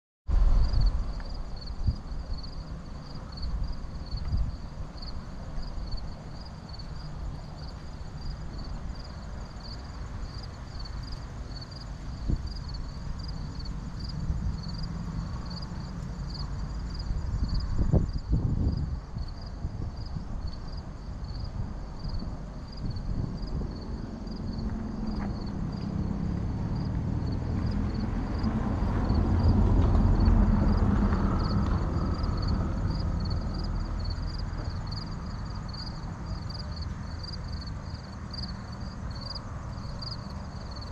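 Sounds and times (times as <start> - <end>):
distant low rumble: 0.3 - 10.4, 11.6 - 40.9
insect chirping: 0.4 - 40.9.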